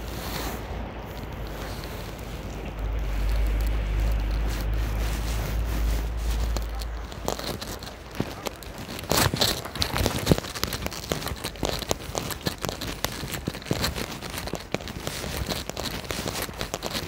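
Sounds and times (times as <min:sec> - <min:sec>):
raindrops pattering on a surface: 0:00.0 - 0:17.0.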